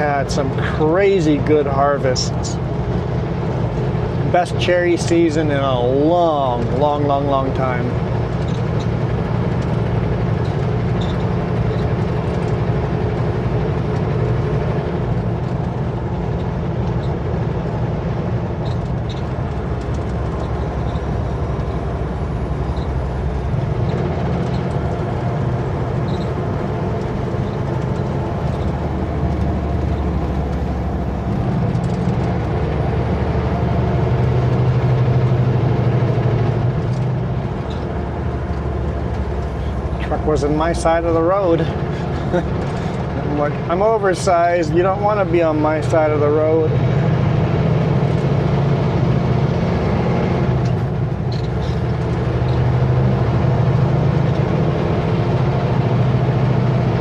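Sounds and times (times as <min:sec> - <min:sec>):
road noise: 0:00.0 - 0:57.0
truck diesel engine running: 0:00.0 - 0:57.0.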